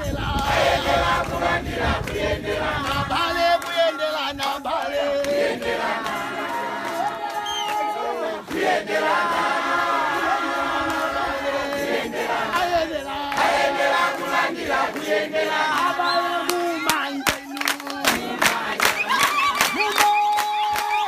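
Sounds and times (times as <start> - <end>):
crowd singing together: 0.0 - 19.8.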